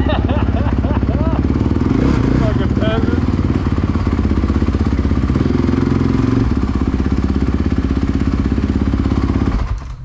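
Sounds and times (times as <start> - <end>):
vehicle engine running at low revs: 0.0 - 10.0.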